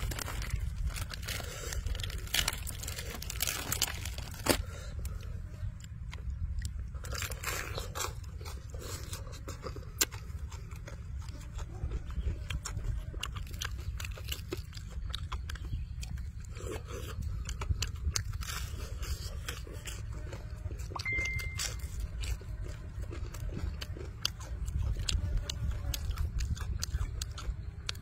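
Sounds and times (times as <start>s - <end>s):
chewing crispy fried chicken: 0.0s - 28.0s
steady low rumble: 0.0s - 28.0s.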